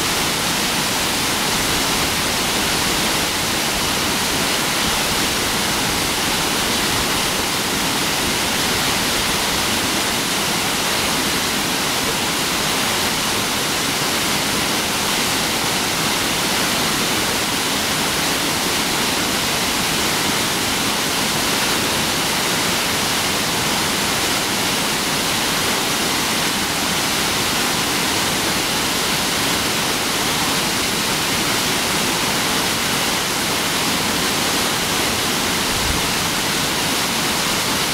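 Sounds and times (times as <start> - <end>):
stream water rushing: 0.0 - 37.9.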